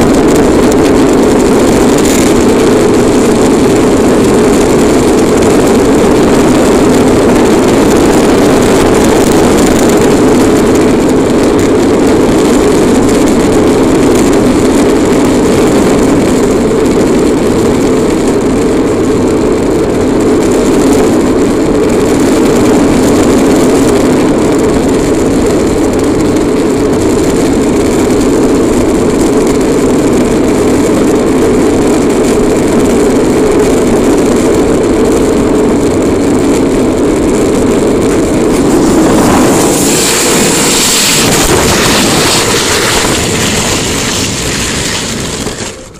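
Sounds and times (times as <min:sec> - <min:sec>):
toy car wheels rolling on asphalt: 0:00.0 - 0:45.9.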